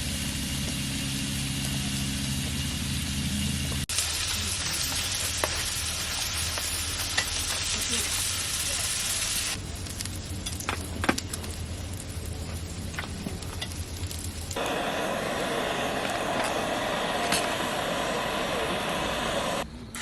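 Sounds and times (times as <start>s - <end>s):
gas burner hissing: 0.0s - 20.0s.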